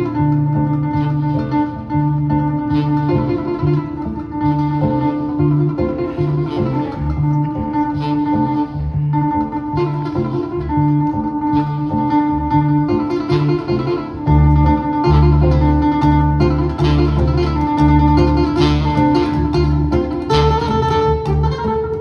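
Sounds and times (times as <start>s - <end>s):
acoustic guitar: 0.0s - 22.0s
plucked upright bass: 0.0s - 22.0s
saxophone holding long notes: 0.0s - 22.0s.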